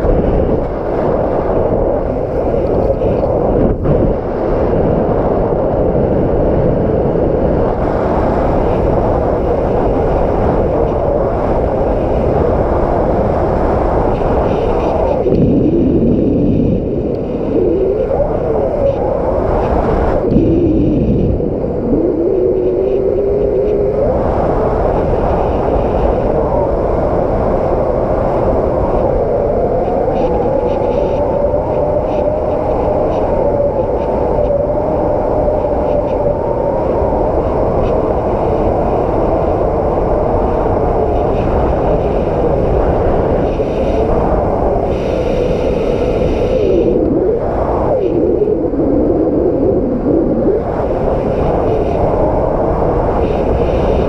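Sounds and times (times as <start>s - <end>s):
strong wind buffeting microphone: 0.0s - 54.0s
wavering wind howl: 0.0s - 54.0s.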